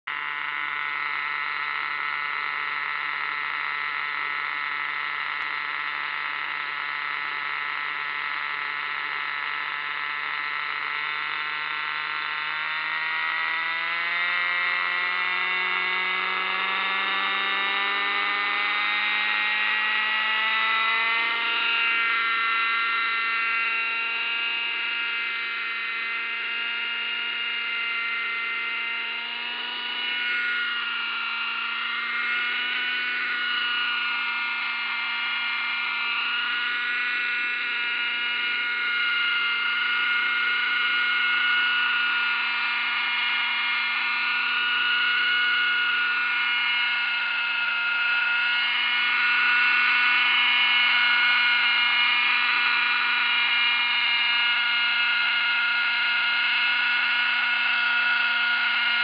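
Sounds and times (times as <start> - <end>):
model helicopter engine buzzing: 0.1 - 59.0.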